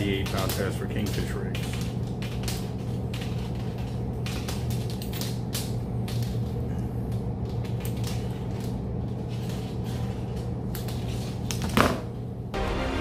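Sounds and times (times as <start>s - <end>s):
steel wire scraping and ticking: 0.0s - 11.5s
steady low hum: 0.0s - 13.0s.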